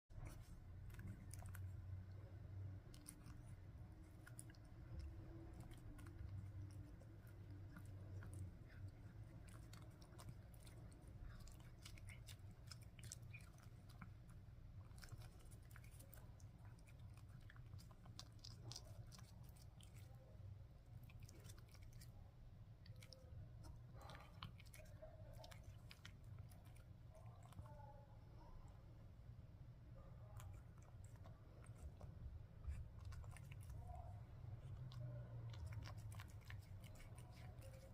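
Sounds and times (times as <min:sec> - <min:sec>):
cat chewing wet clicks: 0:00.2 - 0:27.8, 0:30.3 - 0:37.9.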